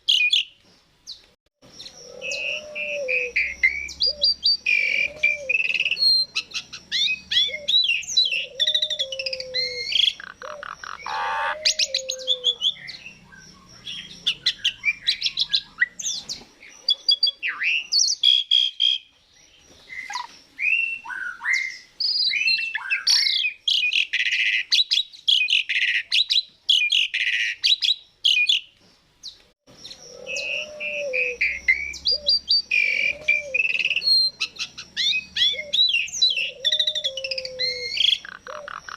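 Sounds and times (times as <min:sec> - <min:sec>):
bird singing whistles and chirps: 0:01.8 - 0:28.7, 0:29.3 - 0:38.9.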